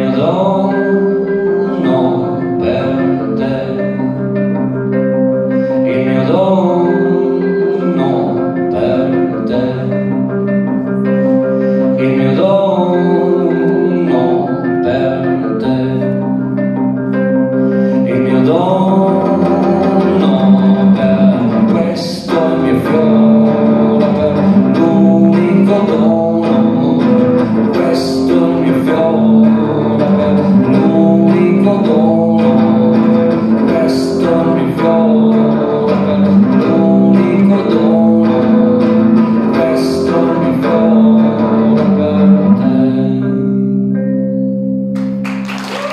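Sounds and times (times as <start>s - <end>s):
electric guitar playing: 0.0s - 45.9s.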